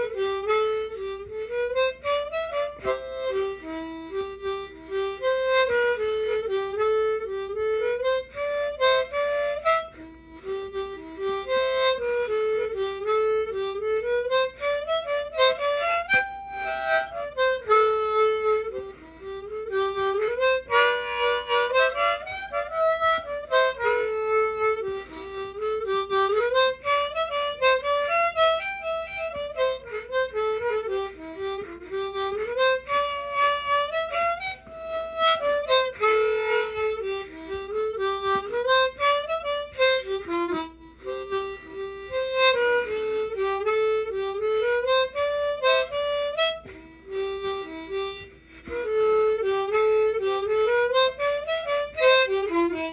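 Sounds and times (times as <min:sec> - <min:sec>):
harmonica playing a jig: 0:00.0 - 0:52.9.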